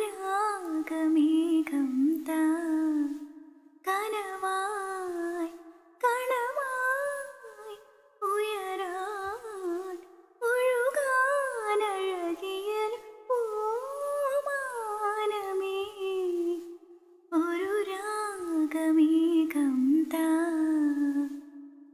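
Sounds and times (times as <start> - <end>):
woman singing unaccompanied: 0.0 - 21.7.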